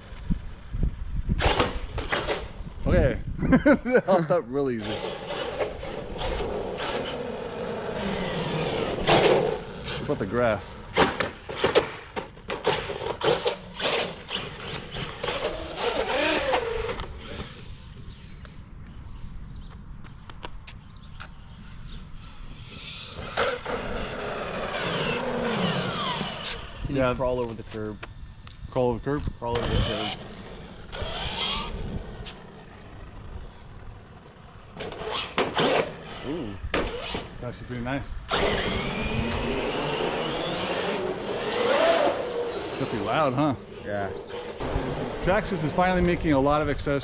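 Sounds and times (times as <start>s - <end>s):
tyre noise on asphalt: 0.0s - 3.6s, 4.7s - 47.0s
rc truck electric motor whine: 4.8s - 19.6s, 20.9s - 47.0s.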